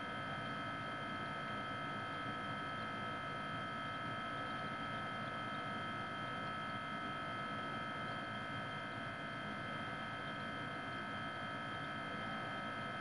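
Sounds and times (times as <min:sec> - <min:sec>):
constant high-pitched tone: 0:00.0 - 0:13.0.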